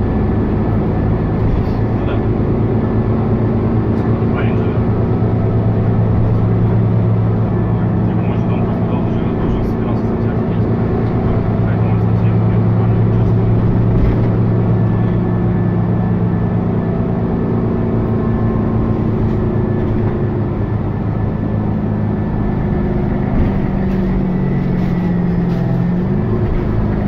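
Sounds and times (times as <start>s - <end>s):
bus engine drone: 0.0s - 27.0s
road rumble: 0.0s - 27.0s.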